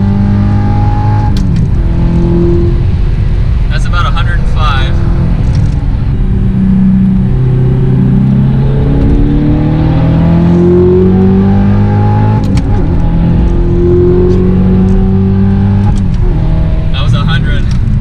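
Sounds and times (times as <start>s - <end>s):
sports car engine accelerating: 0.0s - 18.0s.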